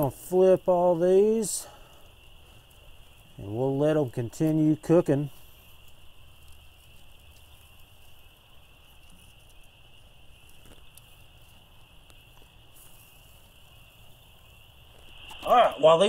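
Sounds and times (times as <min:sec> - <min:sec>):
night insects chirring: 0:00.0 - 0:16.0.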